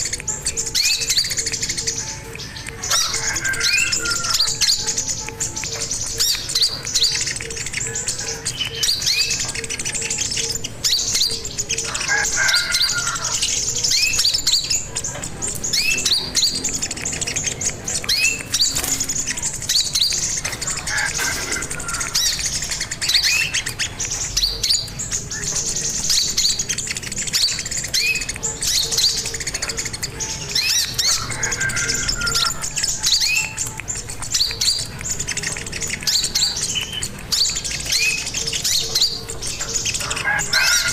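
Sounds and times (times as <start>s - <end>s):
bird singing high chirps: 0.0s - 40.9s.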